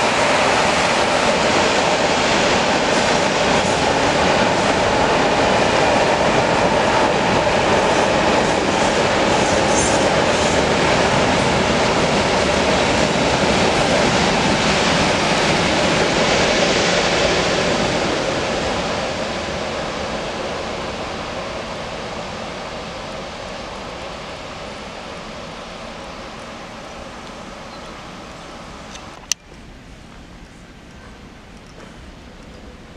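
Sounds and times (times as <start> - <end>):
freight train rolling past: 0.0 - 32.9.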